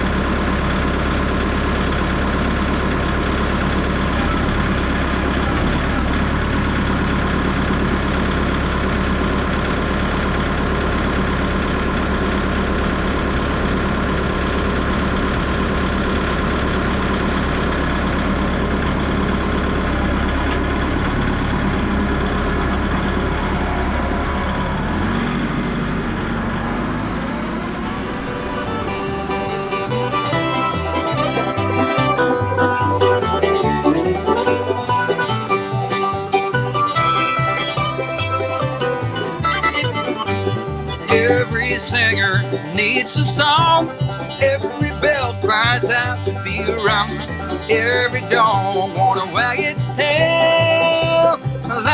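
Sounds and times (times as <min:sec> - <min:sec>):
vehicle engine humming: 0:00.0 - 0:51.9.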